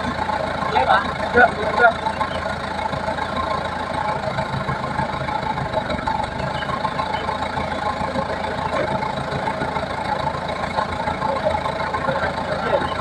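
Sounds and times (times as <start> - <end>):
machine engine running steadily: 0.0 - 13.0.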